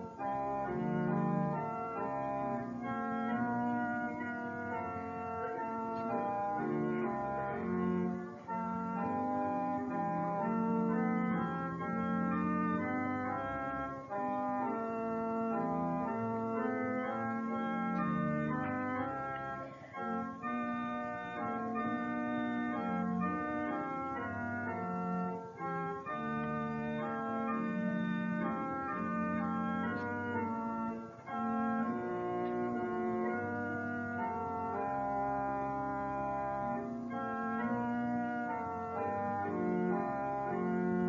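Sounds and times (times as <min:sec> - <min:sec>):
organ playing hymn chords: 0:00.0 - 0:41.0.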